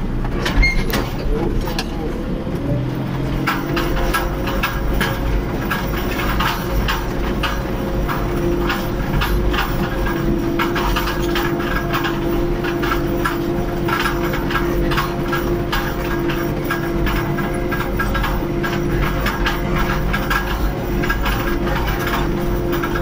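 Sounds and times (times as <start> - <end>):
irregular rattling and clattering: 0.0 - 23.0
tractor diesel engine hum: 0.0 - 23.0.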